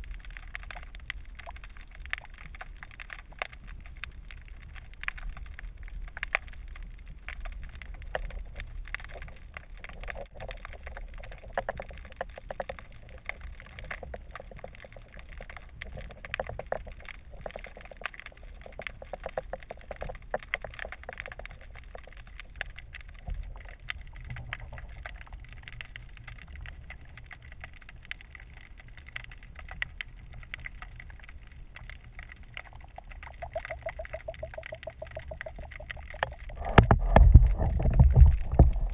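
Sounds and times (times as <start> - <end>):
muffled underwater rumble: 0.0 - 38.9
small clicks and crackles: 0.0 - 38.9.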